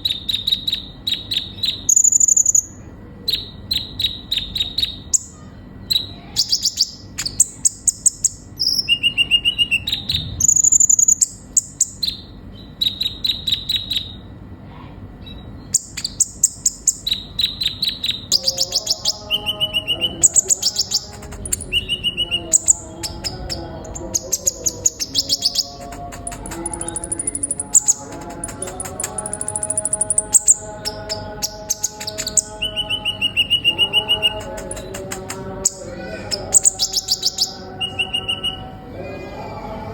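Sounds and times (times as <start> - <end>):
bird chirping and trilling: 0.0 - 14.3, 15.2 - 38.7.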